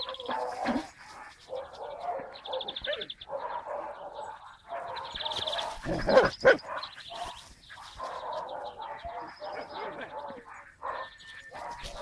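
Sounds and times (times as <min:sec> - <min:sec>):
dogs yipping whining and barking: 0:00.0 - 0:12.0.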